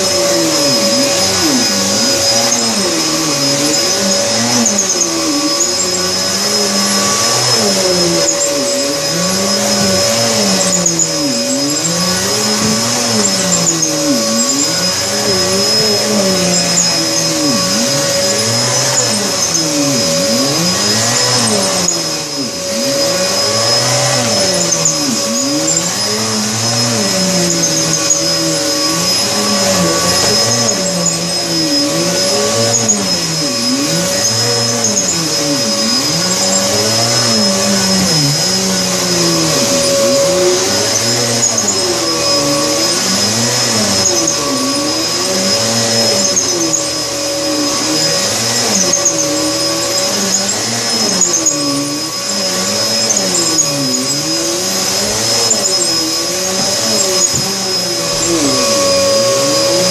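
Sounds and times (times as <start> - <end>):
vacuum cleaner on carpet: 0.0 - 59.9.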